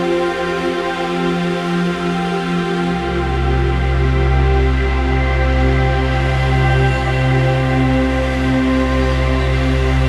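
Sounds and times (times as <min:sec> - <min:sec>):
ambient electronic chords: 0:00.0 - 0:10.0.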